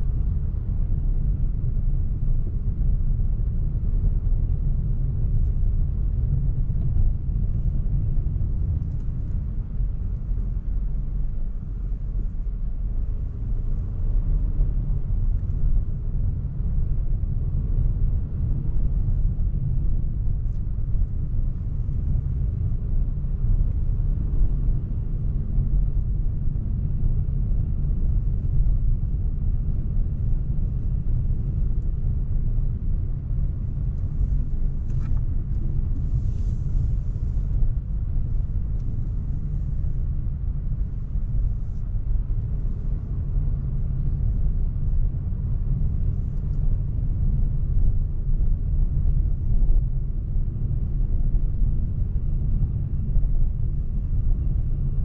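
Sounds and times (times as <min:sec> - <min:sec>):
car cabin road noise: 0:00.0 - 0:55.0
car engine rumble: 0:00.0 - 0:55.0.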